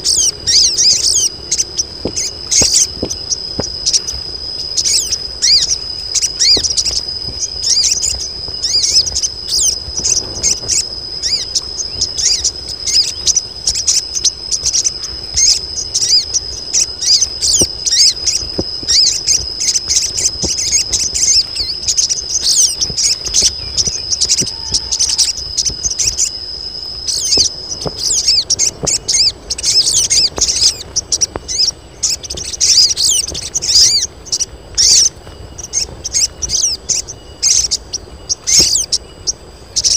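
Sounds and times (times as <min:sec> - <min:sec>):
birds chattering and twittering: 0:00.0 - 0:39.9
steady high whine: 0:00.0 - 0:39.9.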